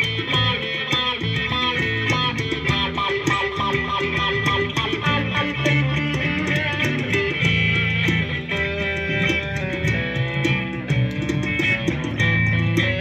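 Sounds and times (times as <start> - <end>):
bass guitar: 0.0 - 13.0
electric guitar: 0.0 - 13.0
sharp percussive ticks: 0.0 - 13.0.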